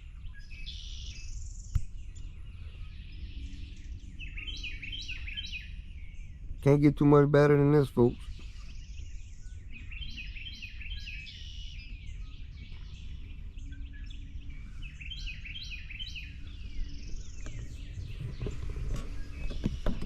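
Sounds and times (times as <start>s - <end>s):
low rumble: 0.0s - 19.8s
birds chirping and singing: 0.0s - 20.0s.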